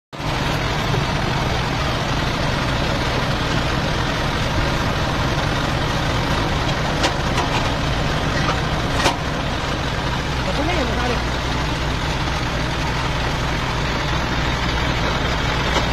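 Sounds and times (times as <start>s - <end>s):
engine driving water pump: 0.1s - 15.9s.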